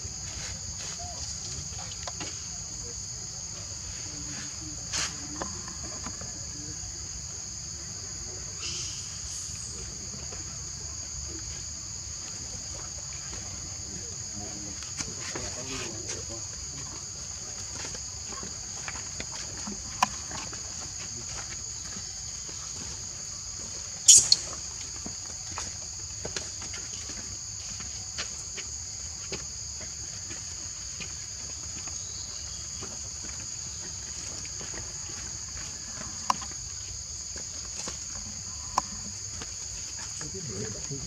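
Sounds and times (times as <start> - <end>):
forest insects droning: 0.0 - 41.0.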